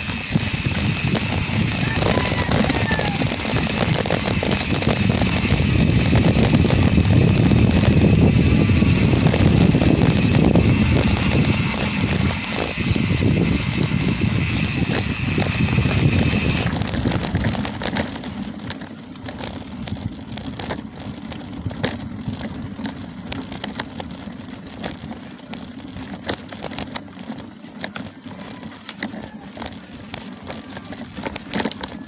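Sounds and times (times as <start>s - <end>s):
wind rumble on microphone: 0.0s - 27.3s
bike rattling clicks: 0.0s - 32.0s
tyres crunching on loose stones: 0.0s - 32.0s.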